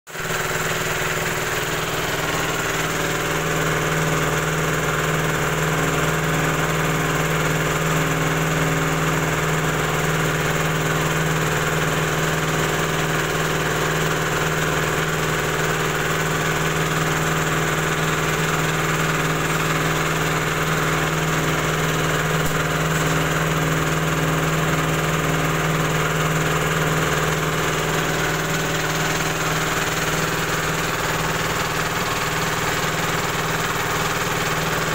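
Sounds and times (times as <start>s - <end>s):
pellet mill droning: 0.1s - 34.9s.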